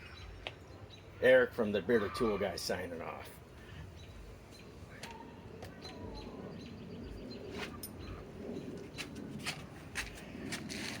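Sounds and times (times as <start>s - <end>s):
birds chirping faintly: 0.0s - 9.8s.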